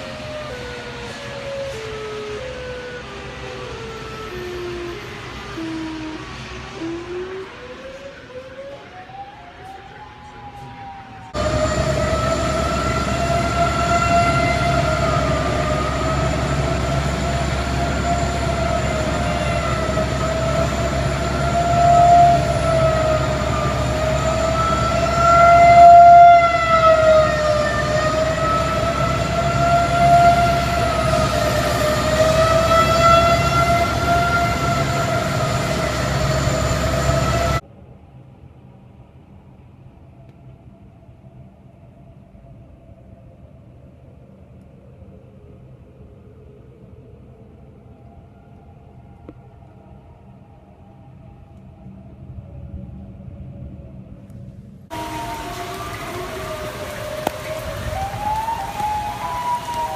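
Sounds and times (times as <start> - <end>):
tornado warning siren: 0.0 - 59.9.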